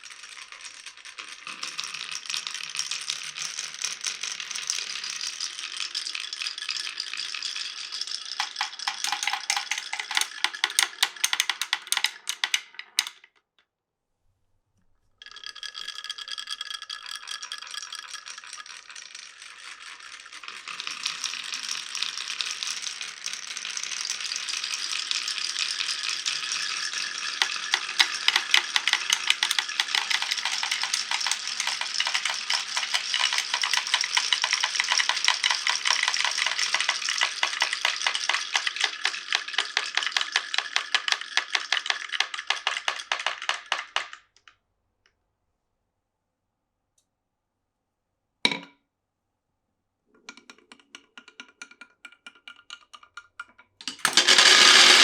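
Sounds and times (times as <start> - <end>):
marbles clattering on wooden run: 0.0 - 13.3, 15.2 - 44.5, 50.9 - 55.0.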